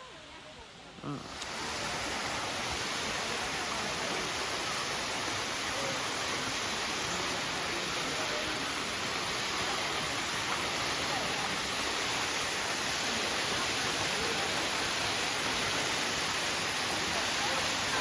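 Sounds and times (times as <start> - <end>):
waterfall rushing: 0.1 - 18.0.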